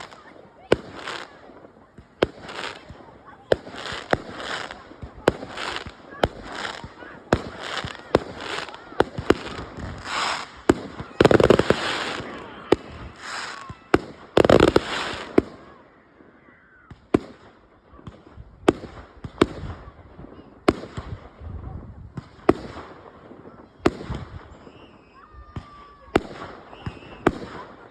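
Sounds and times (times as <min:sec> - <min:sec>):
fireworks bangs and bursts: 0:00.0 - 0:27.9.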